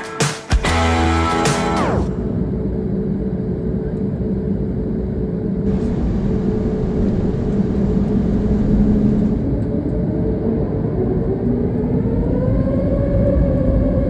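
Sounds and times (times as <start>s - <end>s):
jet engines heard from cabin: 1.7s - 14.0s.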